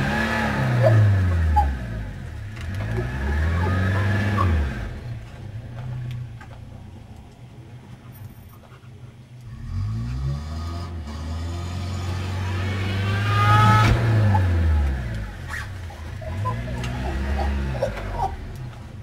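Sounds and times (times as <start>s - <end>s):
van engine revving: 0.0s - 7.2s, 9.4s - 19.0s.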